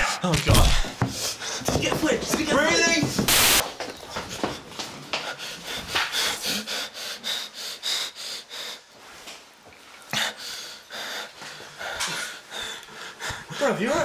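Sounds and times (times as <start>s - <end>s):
people panting hard: 0.8s - 3.3s, 3.9s - 9.2s, 10.1s - 14.0s.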